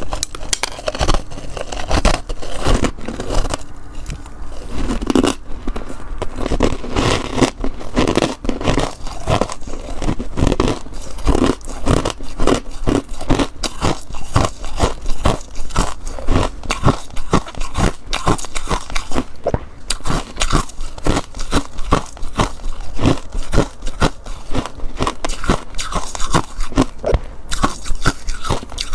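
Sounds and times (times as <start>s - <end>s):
crunching frost being chewed: 0.0s - 28.9s.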